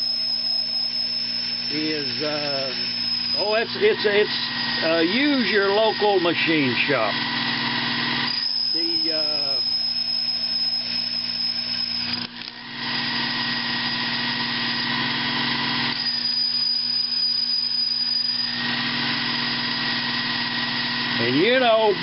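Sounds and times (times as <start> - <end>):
lathe cutting metal: 0.0 - 22.0
lathe motor hum and whine: 0.0 - 22.0.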